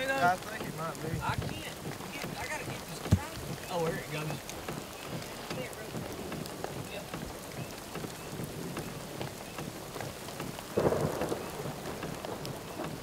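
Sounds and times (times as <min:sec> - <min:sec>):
steady rain with drop ticks: 0:00.0 - 0:13.0.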